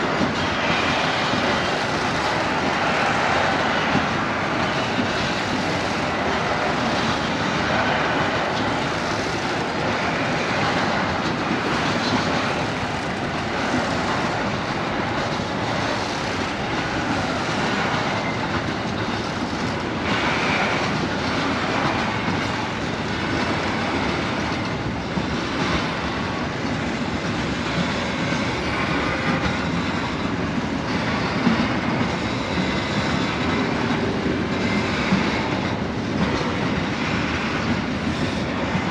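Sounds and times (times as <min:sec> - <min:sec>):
train wheels rolling on rail: 0:00.0 - 0:38.9.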